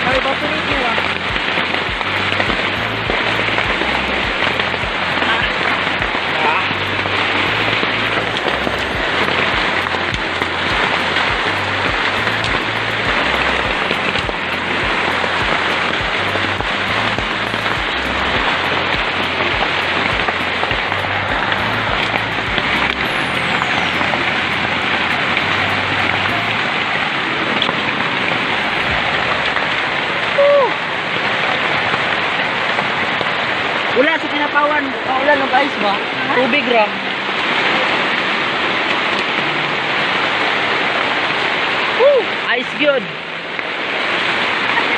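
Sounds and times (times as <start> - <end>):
heavy rain and hail falling: 0.0 - 44.9.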